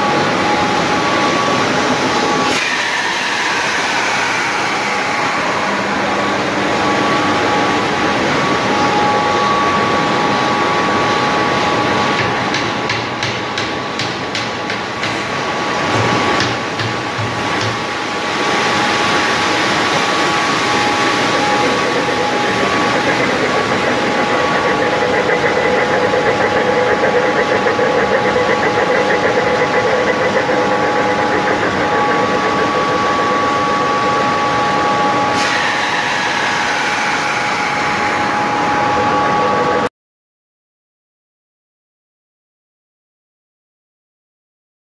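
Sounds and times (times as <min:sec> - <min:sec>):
industrial machinery hum: 0:00.0 - 0:39.9.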